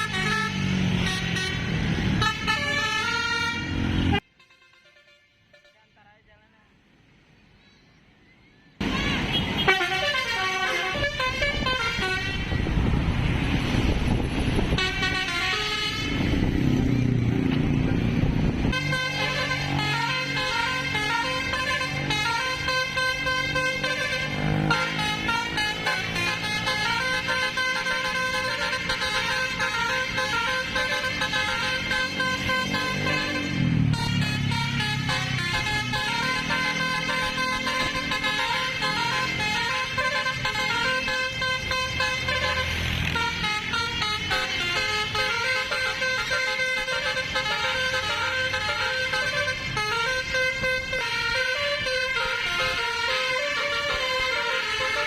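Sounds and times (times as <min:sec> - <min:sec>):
bus melodic horn: 0:00.0 - 0:06.1, 0:08.8 - 0:12.8, 0:14.5 - 0:17.1, 0:18.5 - 0:55.0
vehicle noise: 0:00.0 - 0:55.0.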